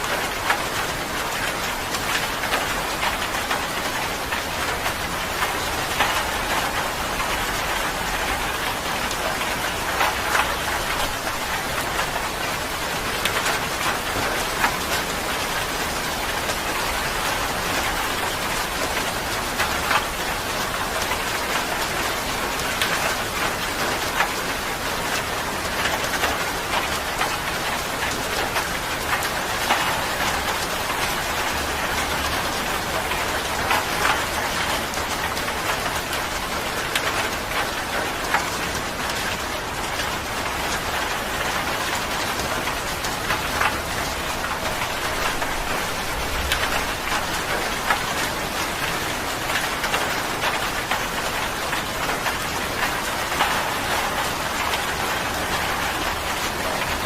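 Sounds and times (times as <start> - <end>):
raindrops pattering: 0.0 - 57.0.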